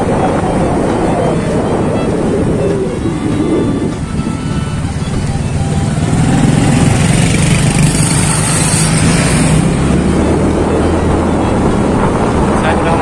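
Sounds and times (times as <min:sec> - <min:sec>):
motorcycle engine running: 0:00.0 - 0:13.0
wind on microphone: 0:00.0 - 0:13.0.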